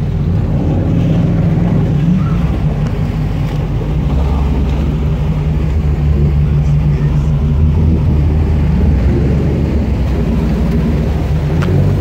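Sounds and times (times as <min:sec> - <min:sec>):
car engine low drone: 0:00.0 - 0:12.0.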